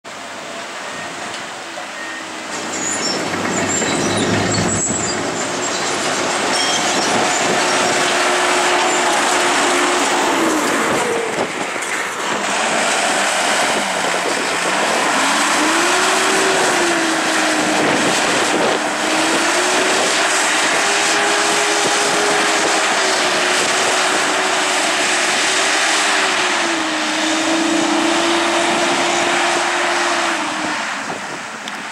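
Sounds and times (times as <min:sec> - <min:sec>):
locomotive engine tone: 0:00.1 - 0:31.8
train rumbling on rails: 0:00.2 - 0:31.9.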